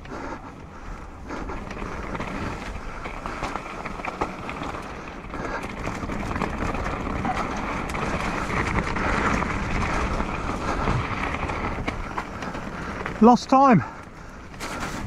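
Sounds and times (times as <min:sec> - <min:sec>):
bike rattling over roots: 0:00.0 - 0:15.0
bike tyres rumbling on dirt: 0:00.0 - 0:15.0.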